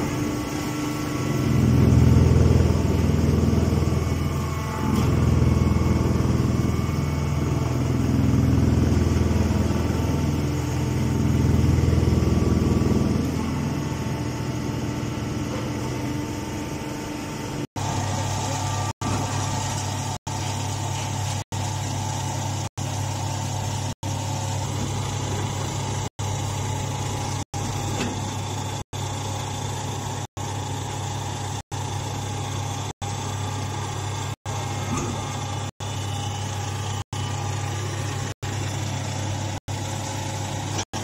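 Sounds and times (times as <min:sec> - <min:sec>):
hydraulic motor humming: 0:00.0 - 0:41.0.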